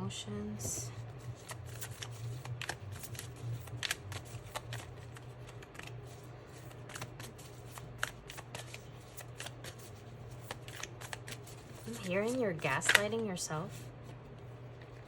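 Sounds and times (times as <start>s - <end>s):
low steady hum: 0.0s - 15.0s
cards being shuffled: 0.7s - 13.8s.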